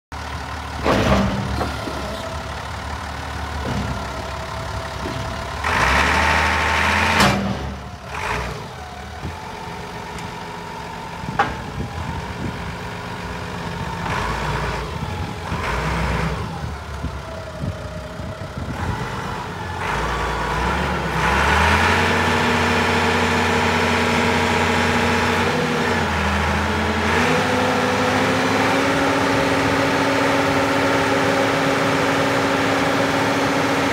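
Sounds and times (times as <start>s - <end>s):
diesel forklift engine revving: 0.1s - 33.9s.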